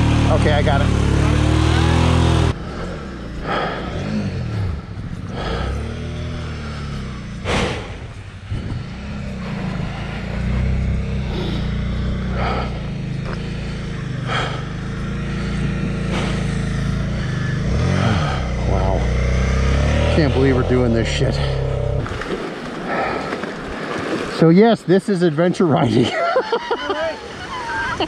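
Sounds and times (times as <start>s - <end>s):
motorcycle engine revving: 0.0s - 22.6s.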